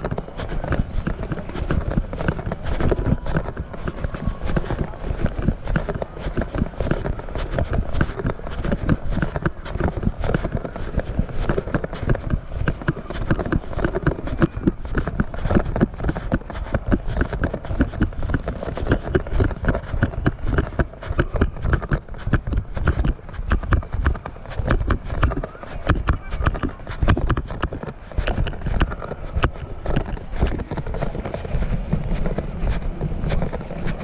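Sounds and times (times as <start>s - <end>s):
footsteps in dry sand: 0.0s - 34.0s.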